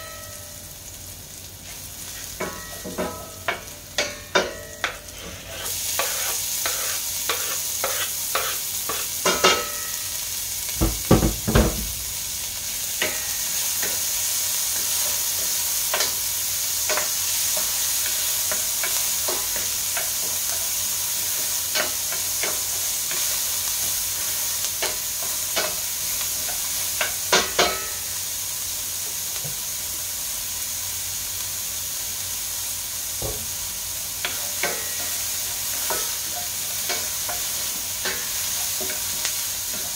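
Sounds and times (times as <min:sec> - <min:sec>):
onion sizzling in hot oil: 0:00.0 - 0:39.9.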